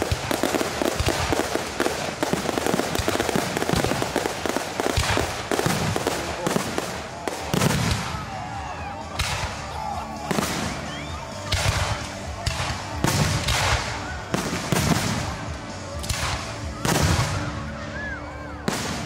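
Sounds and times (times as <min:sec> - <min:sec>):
firework bangs: 0:00.0 - 0:08.3, 0:09.1 - 0:17.6, 0:18.7 - 0:19.0
fireworks crackling: 0:00.0 - 0:19.0.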